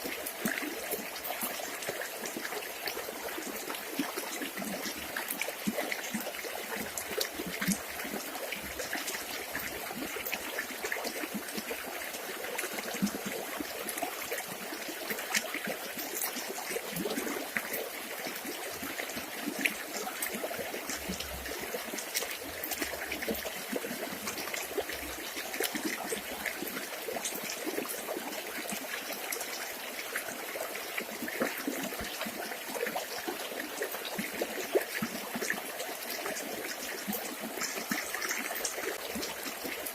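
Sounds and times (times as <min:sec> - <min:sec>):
river water trickling over stones: 0:00.0 - 0:39.9.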